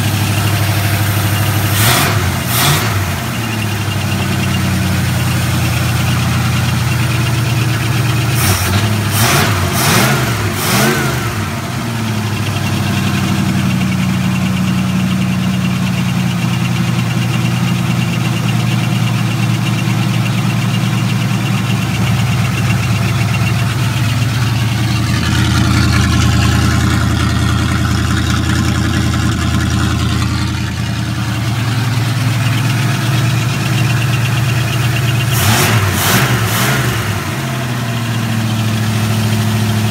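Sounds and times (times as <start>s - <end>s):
loud engine idling: 0.0s - 39.9s.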